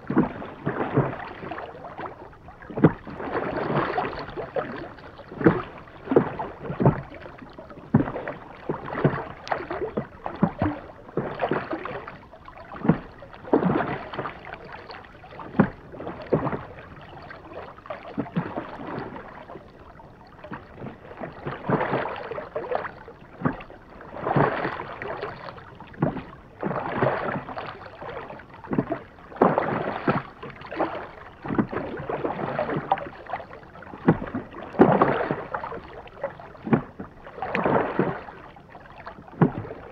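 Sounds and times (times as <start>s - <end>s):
oars splashing in water: 0.0s - 39.9s.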